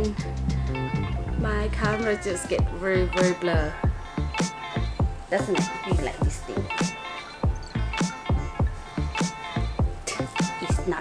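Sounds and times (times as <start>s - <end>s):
held synth notes: 0.1s - 11.0s.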